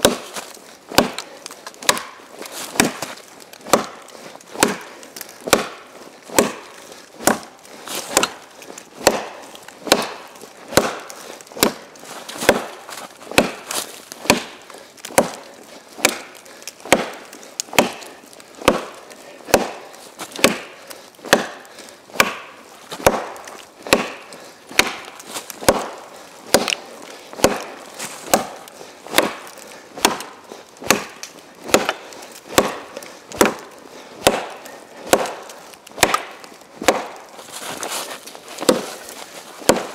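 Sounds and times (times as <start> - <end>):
blade chopping into log: 0.0 - 26.8, 27.4 - 39.9.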